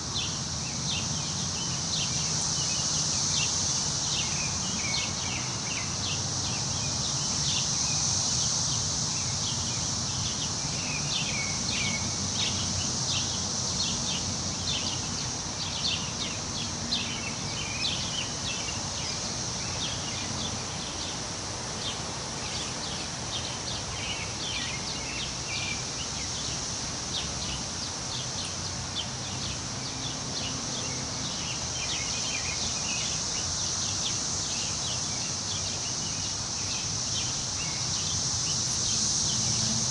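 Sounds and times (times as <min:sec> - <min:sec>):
wind in trees: 0:00.0 - 0:39.9.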